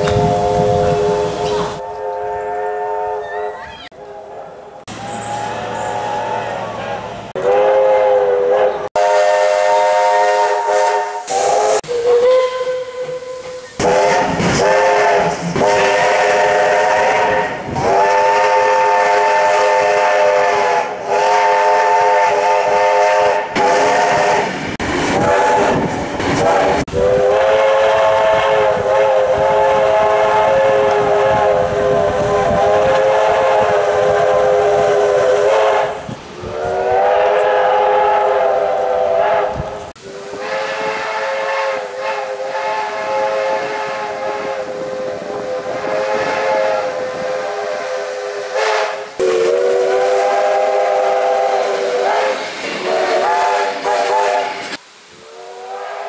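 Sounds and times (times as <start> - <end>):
steam hissing: 0.0 - 1.8, 4.9 - 56.0
steam locomotive whistle blasts: 0.0 - 3.3, 4.0 - 24.6, 25.2 - 56.0.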